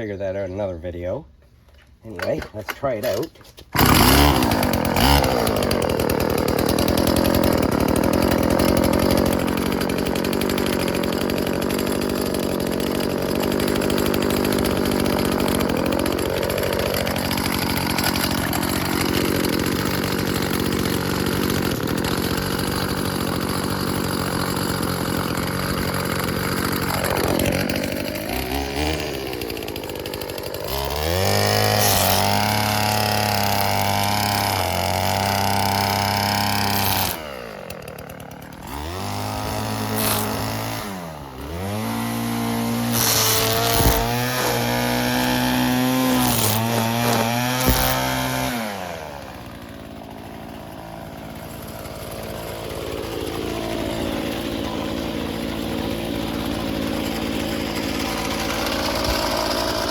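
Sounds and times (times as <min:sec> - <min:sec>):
string trimmer engine revving: 0:02.1 - 0:59.9.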